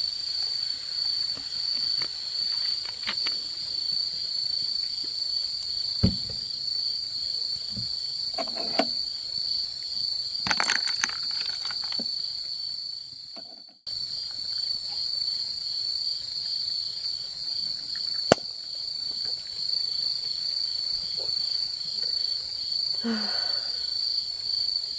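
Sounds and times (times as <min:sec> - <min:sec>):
night insects chirping: 0:00.0 - 0:24.9.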